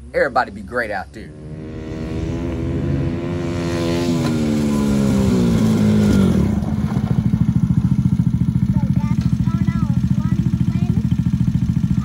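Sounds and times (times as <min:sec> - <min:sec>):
utility vehicle engine: 0:00.0 - 0:12.0.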